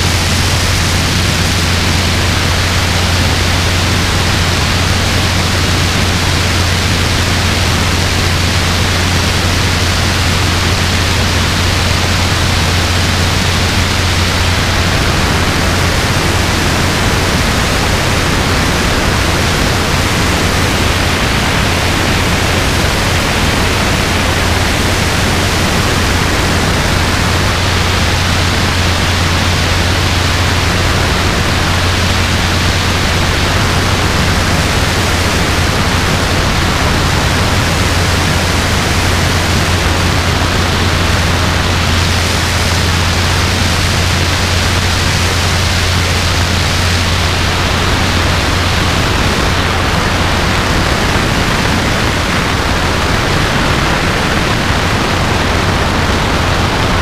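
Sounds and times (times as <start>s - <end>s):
helicopter engine and rotor: 0.0s - 57.0s
wind rushing over microphone: 0.0s - 57.0s.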